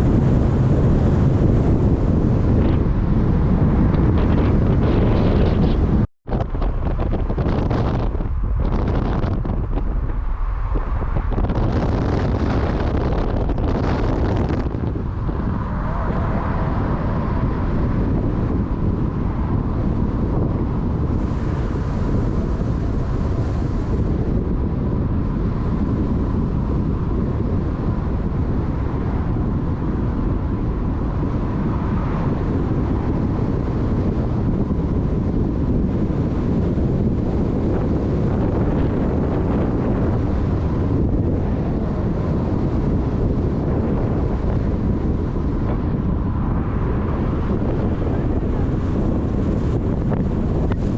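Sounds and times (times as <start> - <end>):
moving vehicle rumble: 0.0 - 50.9
wind buffeting microphone: 0.0 - 50.9.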